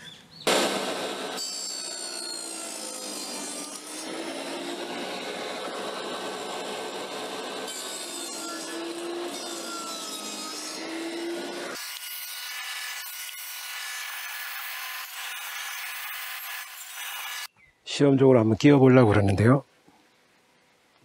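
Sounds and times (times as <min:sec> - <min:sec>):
table saw cutting wood: 0:00.5 - 0:17.5.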